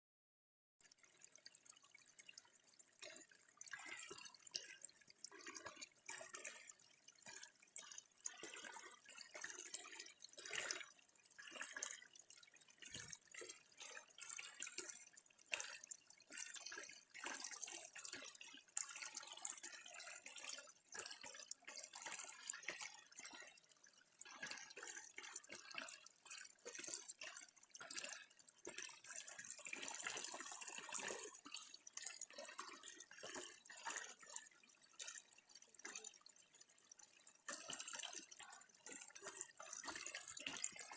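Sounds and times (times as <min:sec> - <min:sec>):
water splashing and dripping: 0:00.8 - 0:40.9.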